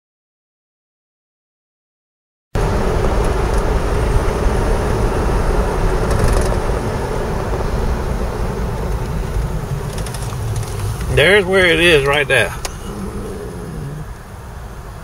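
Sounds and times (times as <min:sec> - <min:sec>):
car engine: 0:02.6 - 0:15.0
road noise inside car: 0:02.6 - 0:15.0.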